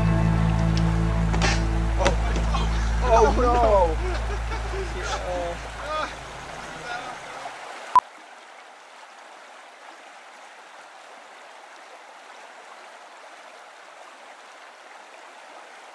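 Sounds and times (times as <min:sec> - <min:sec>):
stream flowing: 0:00.0 - 0:15.9.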